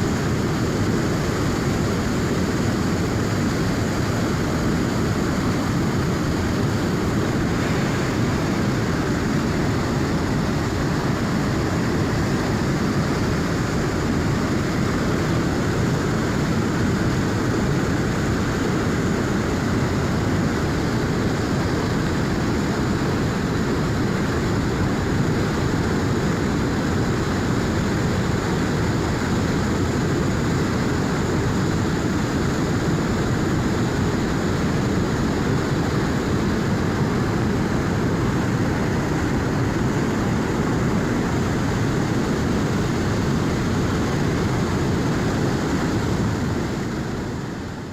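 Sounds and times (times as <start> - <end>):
river rushing: 0.0 - 47.9.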